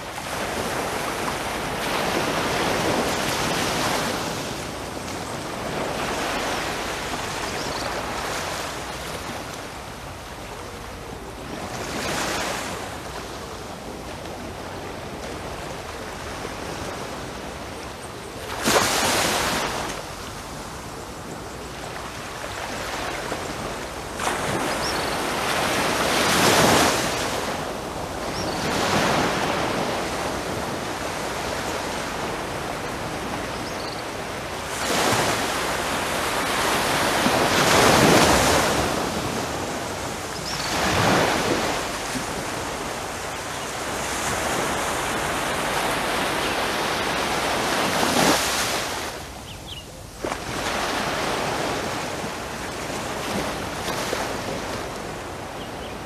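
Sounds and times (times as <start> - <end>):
small waves lapping on sand: 0.0 - 56.0.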